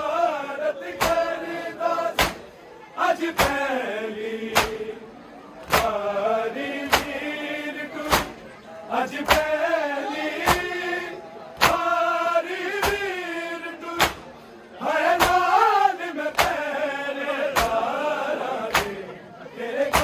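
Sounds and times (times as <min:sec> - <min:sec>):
men chanting together: 0:00.0 - 0:20.0.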